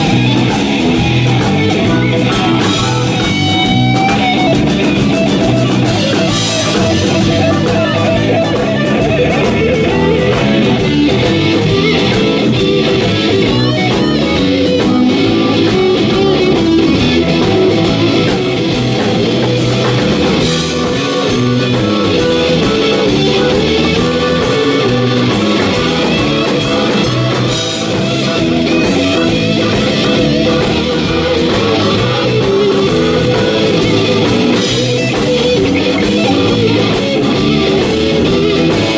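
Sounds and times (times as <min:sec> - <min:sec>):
bass guitar: 0:00.0 - 0:38.9
drums: 0:00.0 - 0:38.9
electric guitar lead: 0:00.0 - 0:38.9.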